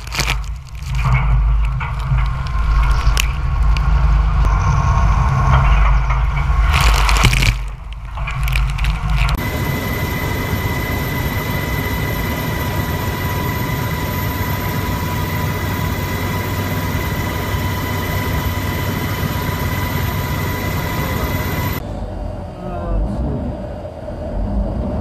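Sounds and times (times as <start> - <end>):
aircraft engine noise: 0.0 - 22.1.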